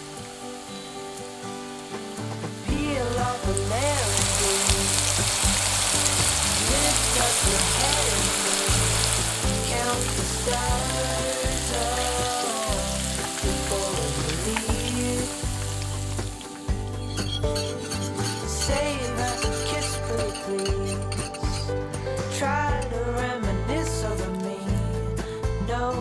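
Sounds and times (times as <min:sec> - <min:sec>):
deep-frying sizzle in hot oil: 0:00.0 - 0:21.0.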